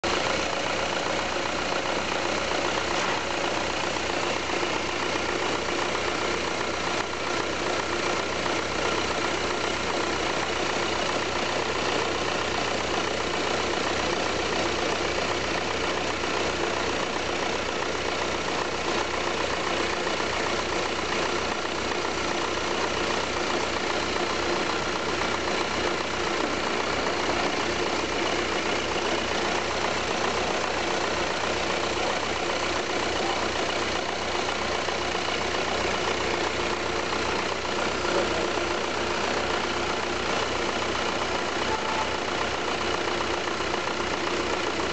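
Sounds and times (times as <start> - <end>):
diesel car engine idling: 0.0 - 44.9.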